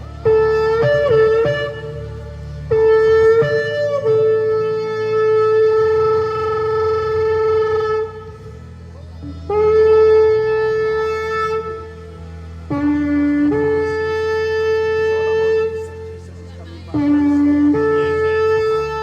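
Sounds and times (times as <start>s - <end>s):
shofar blasts: 0.0s - 16.3s, 16.9s - 19.0s
low steady drone: 0.0s - 19.0s.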